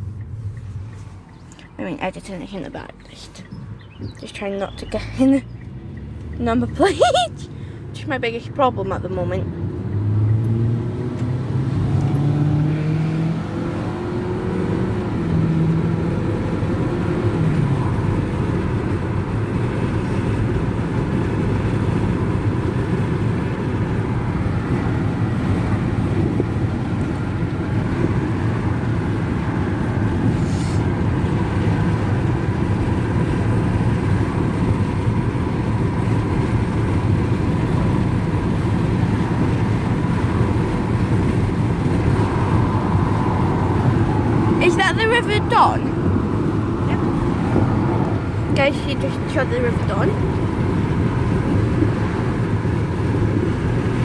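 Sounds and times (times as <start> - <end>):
car engine: 0.0 - 54.0
road noise: 0.0 - 54.0.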